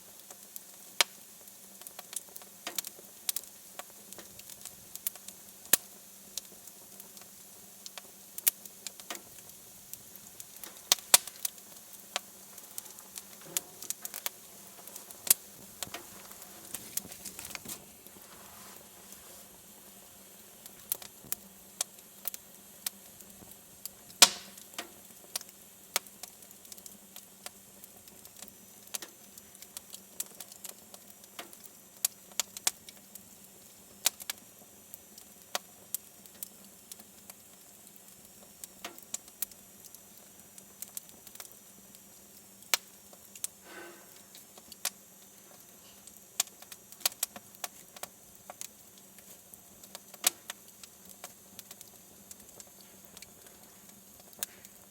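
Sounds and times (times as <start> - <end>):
faint steady hiss: 0.0 - 54.9
wood fire crackling and popping: 0.0 - 54.9.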